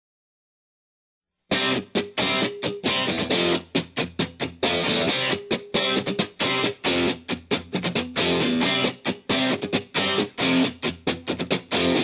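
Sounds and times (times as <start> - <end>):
guitar-led background music: 1.5 - 12.0.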